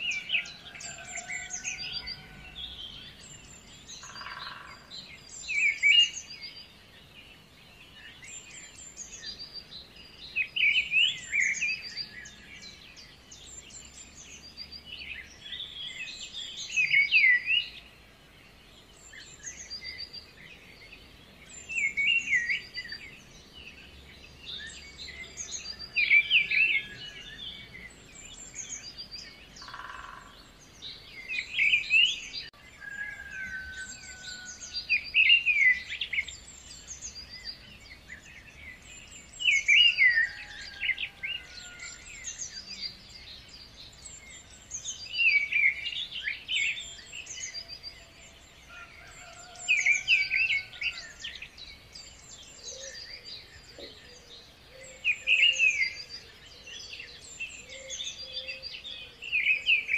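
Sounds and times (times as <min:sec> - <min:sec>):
birds chirping song: 0:00.0 - 0:59.9.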